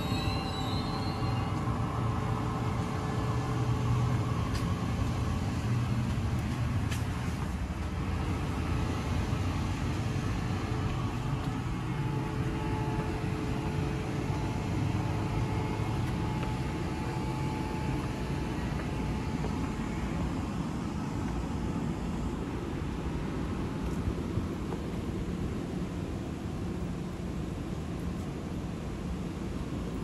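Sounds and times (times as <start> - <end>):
electric train passing overhead: 0.0 - 30.0.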